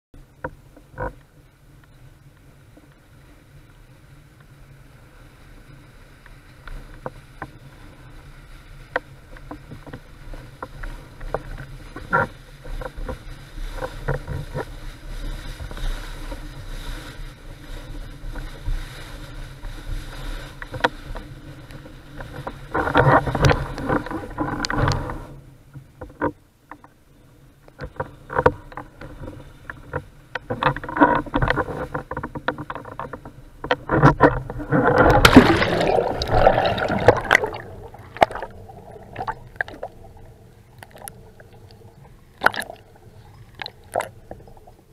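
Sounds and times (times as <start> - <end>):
board slapping water: 0.2 - 27.0, 27.7 - 44.9
water rushing along board hull: 0.2 - 44.9
wind rumble on microphone: 0.2 - 44.9.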